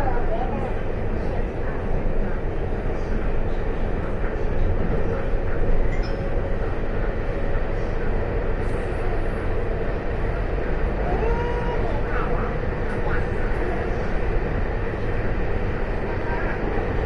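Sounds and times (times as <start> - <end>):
train hum: 0.0 - 17.0
train wheels rumbling on rails: 0.0 - 17.0.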